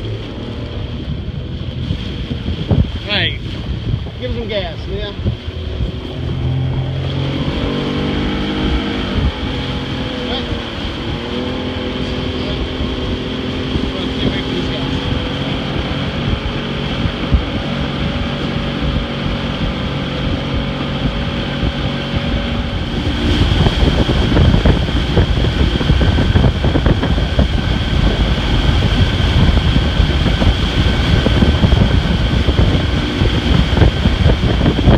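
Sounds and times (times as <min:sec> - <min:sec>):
outboard motor running: 0:00.0 - 0:34.9
wind buffeting microphone: 0:00.0 - 0:34.9.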